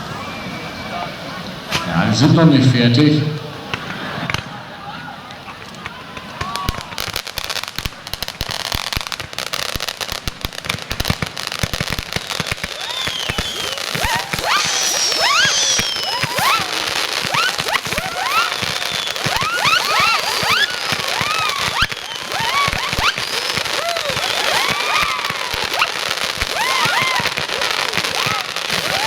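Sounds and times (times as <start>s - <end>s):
whistling fireworks: 0.0s - 29.0s
fireworks crackling: 0.9s - 29.0s.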